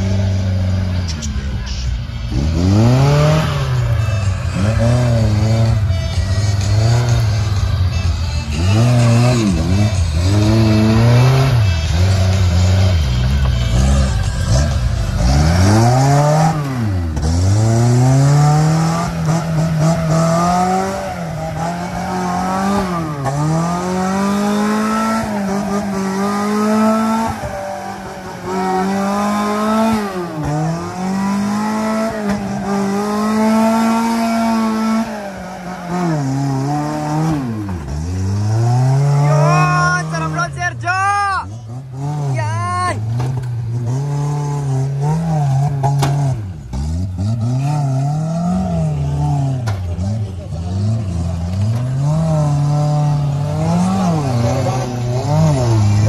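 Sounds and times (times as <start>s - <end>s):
off-road vehicle engine revving: 0.0s - 56.0s.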